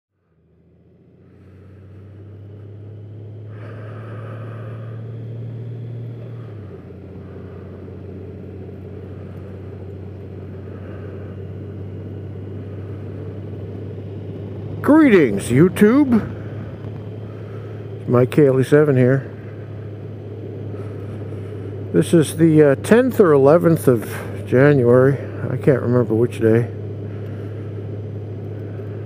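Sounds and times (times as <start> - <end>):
motorcycle engine humming: 0.2 - 29.0.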